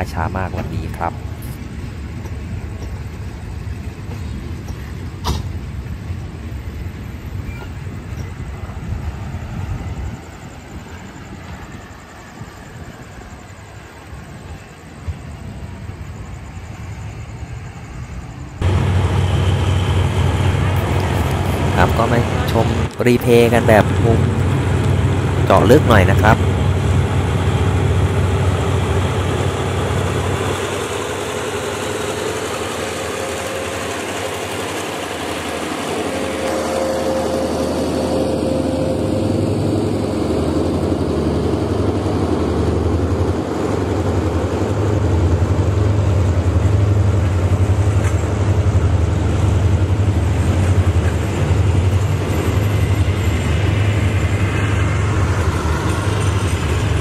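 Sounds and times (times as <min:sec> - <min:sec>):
diesel locomotive pulling train: 0:00.0 - 0:57.0
train coaches rumbling on rails: 0:00.0 - 0:57.0.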